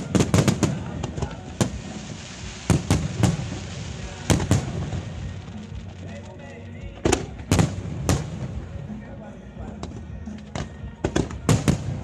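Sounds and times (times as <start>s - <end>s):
firework crackling: 0.0s - 9.1s, 9.9s - 12.0s.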